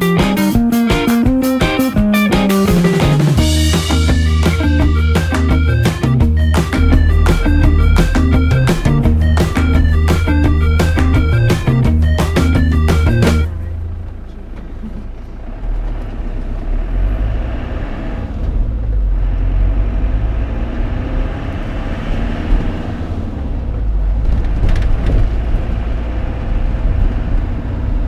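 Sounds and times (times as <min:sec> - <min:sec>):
vehicle engine and road rumble: 0:02.6 - 0:28.0.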